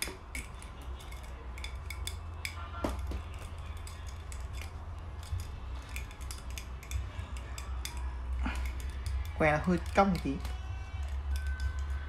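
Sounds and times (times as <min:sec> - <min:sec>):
low steady rumble: 0:00.0 - 0:12.0
steel rod clicking in barrel: 0:00.0 - 0:12.0.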